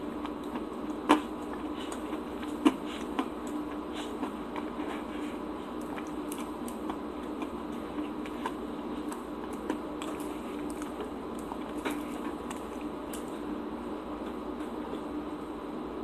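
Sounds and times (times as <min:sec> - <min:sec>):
room tone hum: 0:00.0 - 0:16.0.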